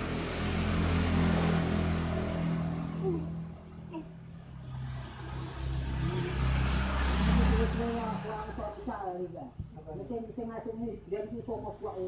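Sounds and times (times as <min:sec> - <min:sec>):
vehicle engine passing by: 0:00.0 - 0:10.4.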